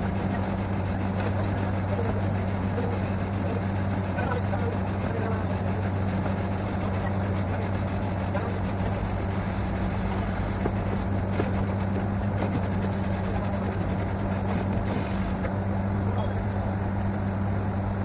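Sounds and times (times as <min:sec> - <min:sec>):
drilling rig engine humming: 0:00.0 - 0:18.0.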